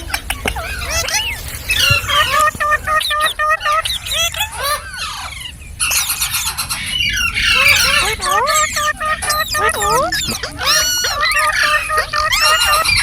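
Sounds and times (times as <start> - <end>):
parrot squawking and screeching: 0.0 - 13.0.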